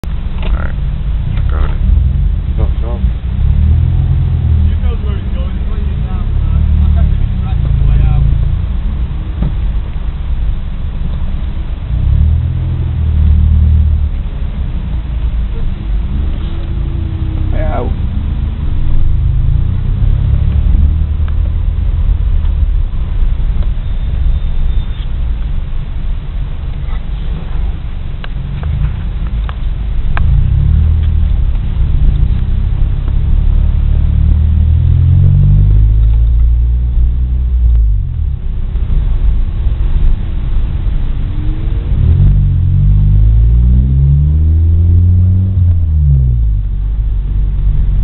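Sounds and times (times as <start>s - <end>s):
car engine and road noise rumble: 0.0s - 48.0s.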